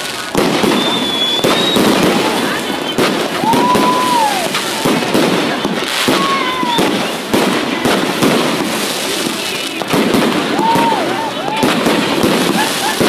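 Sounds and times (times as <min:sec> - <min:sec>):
firecrackers banging: 0:00.0 - 0:13.0
firework whistling: 0:00.0 - 0:13.0.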